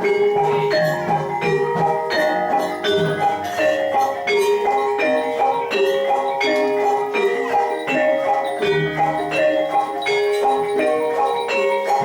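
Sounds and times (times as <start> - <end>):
gamelan metallophones ringing: 0.0 - 12.0.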